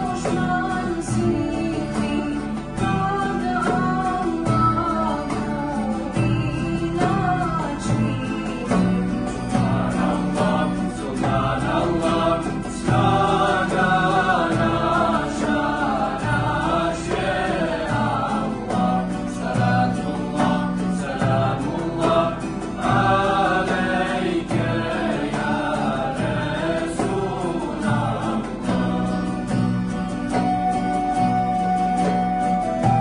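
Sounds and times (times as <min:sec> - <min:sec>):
choir singing: 0:00.0 - 0:31.0
accordion: 0:00.0 - 0:33.0
acoustic guitars: 0:00.0 - 0:33.0
hand drum: 0:00.0 - 0:33.0
keyboard: 0:00.0 - 0:33.0.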